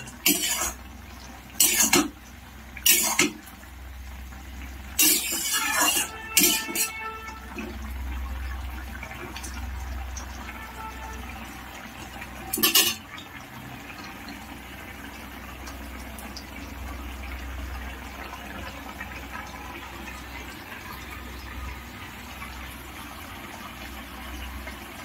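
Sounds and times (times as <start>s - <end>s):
curry bubbling in a pan: 0.0s - 25.0s.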